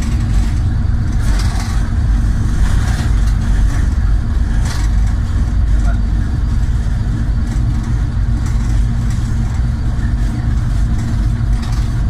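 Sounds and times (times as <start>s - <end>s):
locomotive engine drone: 0.0s - 12.0s.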